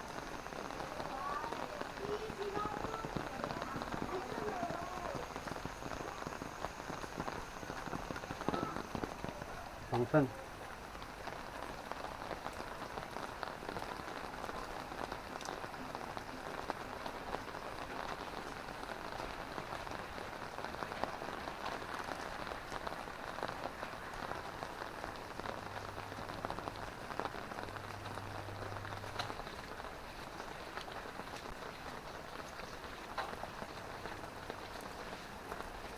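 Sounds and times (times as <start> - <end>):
drizzling rain pattering: 0.0 - 35.9.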